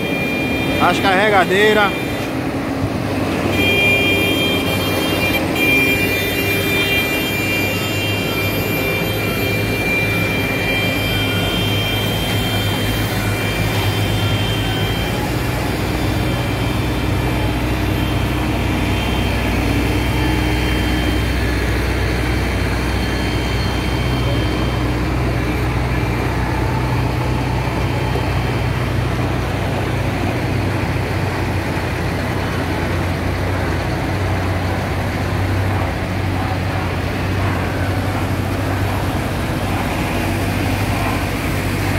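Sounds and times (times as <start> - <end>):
diesel engines running: 0.0 - 41.9.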